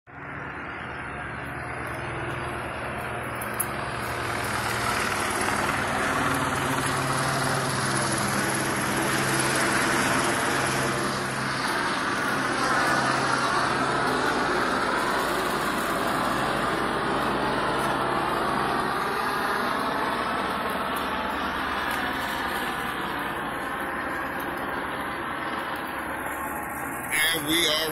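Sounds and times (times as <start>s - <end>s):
vehicle engine hum: 0.1s - 27.9s.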